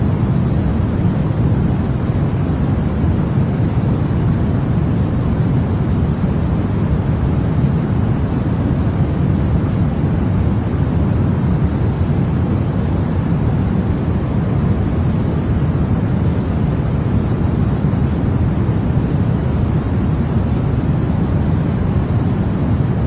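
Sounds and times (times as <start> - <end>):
steady white noise: 0.0 - 23.0.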